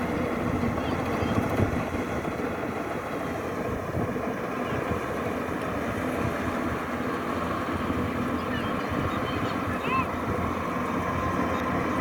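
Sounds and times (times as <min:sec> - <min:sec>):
combine harvester engine rumbling: 0:00.0 - 0:12.0.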